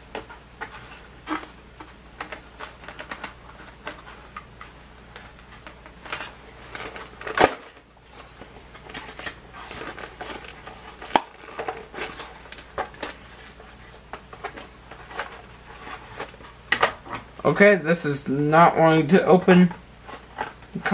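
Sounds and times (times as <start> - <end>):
plastic and cardboard rustling: 0.0 - 20.9.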